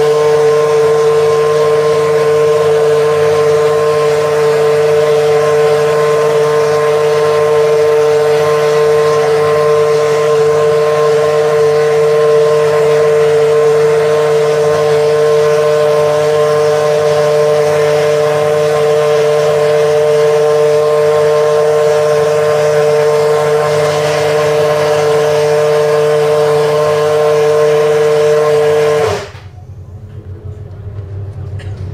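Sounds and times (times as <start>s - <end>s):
racing car engine idling loud: 0.0s - 31.9s.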